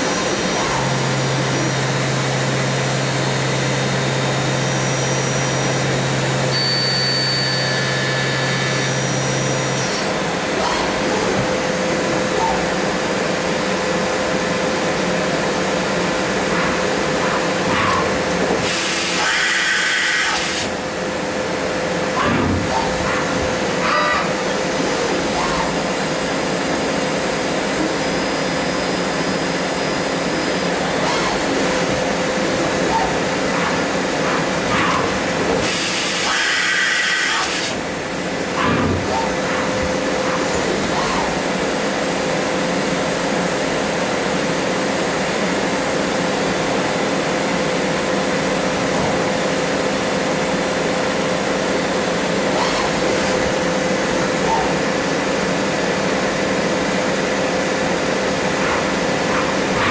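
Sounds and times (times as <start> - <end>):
machine mechanical hum: 0.0 - 59.9.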